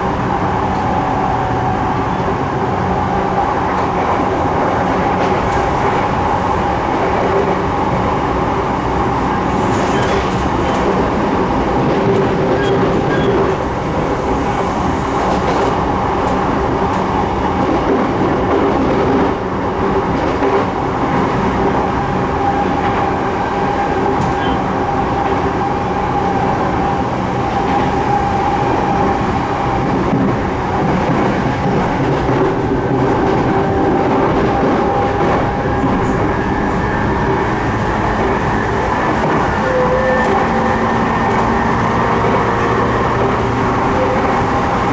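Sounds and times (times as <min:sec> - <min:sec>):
steady train hum: 0:00.0 - 0:44.9
train wheels rumbling on rail: 0:00.0 - 0:44.9.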